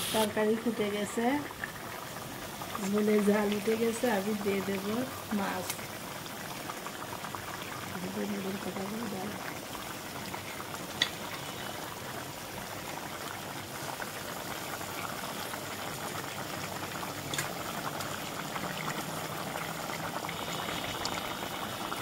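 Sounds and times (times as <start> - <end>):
broth boiling and bubbling: 0.0 - 22.0.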